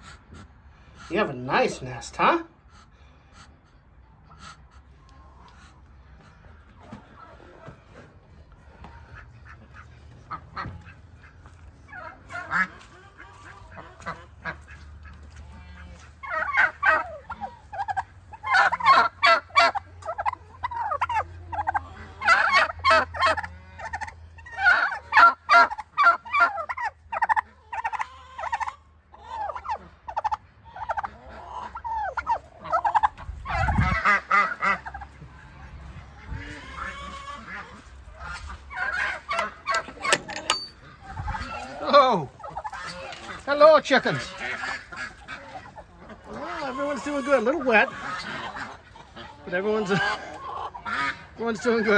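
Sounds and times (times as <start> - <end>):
turkeys gobbling: 0.0 - 51.9.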